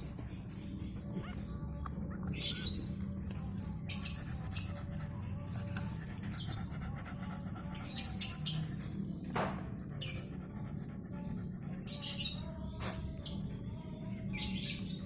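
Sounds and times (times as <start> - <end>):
puppies squeaking: 0.3 - 15.0.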